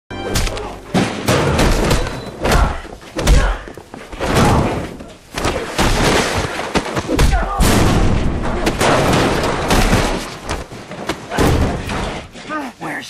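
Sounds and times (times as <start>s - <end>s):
heavy punches and body thuds: 0.4s - 12.2s.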